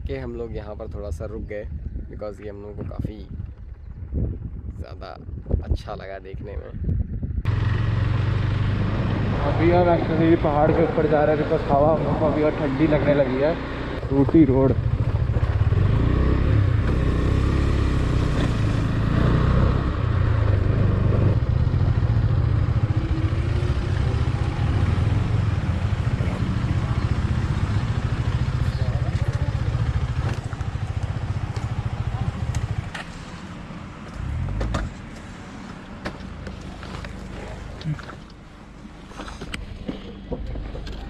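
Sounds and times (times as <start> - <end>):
motorcycle engine rumbling: 0.0 - 41.0.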